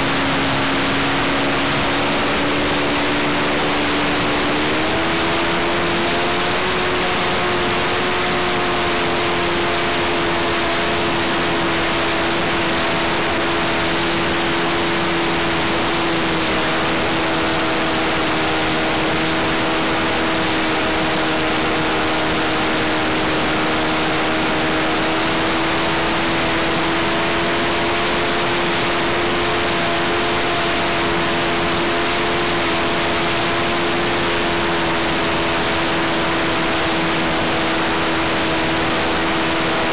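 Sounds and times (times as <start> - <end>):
model aircraft engine buzzing: 0.0 - 39.9.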